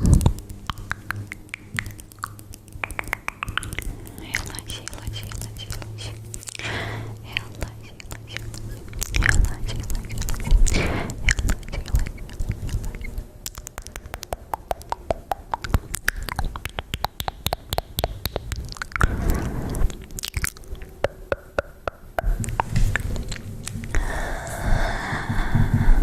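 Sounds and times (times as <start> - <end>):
wet mouth clicks and smacks: 0.0 - 24.2.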